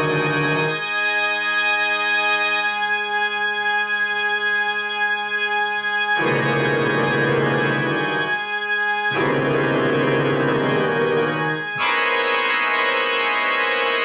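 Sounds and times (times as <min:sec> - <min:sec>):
organ-like keyboard chords: 0:00.0 - 0:14.0.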